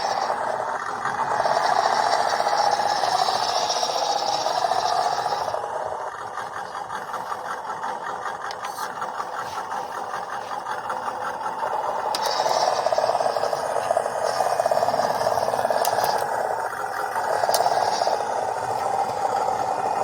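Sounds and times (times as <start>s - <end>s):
drivetrain rattling: 0.0s - 20.0s
small electric motor whining: 0.0s - 20.0s.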